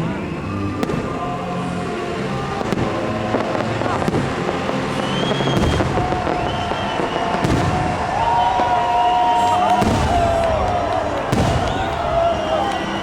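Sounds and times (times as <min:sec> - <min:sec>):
fireworks bangs: 0:00.0 - 0:13.0
fireworks pops and crackling: 0:00.7 - 0:01.3, 0:02.4 - 0:13.0.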